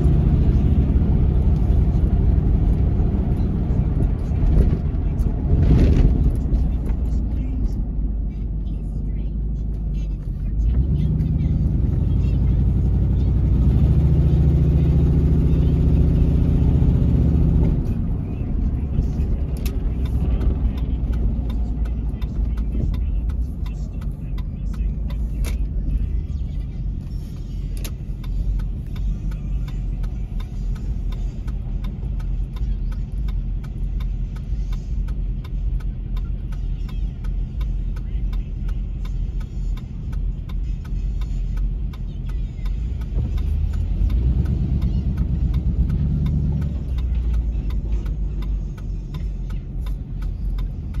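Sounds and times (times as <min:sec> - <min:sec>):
car engine rumble: 0:00.0 - 0:51.0
road noise: 0:00.0 - 0:51.0.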